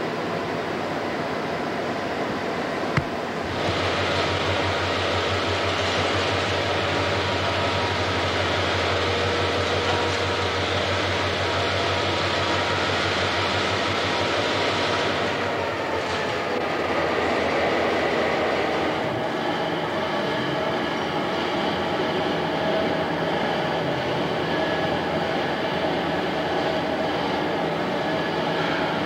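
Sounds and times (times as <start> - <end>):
diesel locomotive engine running: 0.0 - 29.0.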